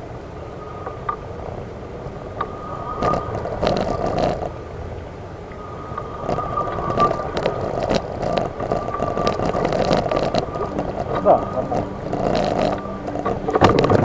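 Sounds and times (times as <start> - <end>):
wheelchair motor whine: 0.0 - 14.0
wheels rumbling and knocking: 0.0 - 14.0.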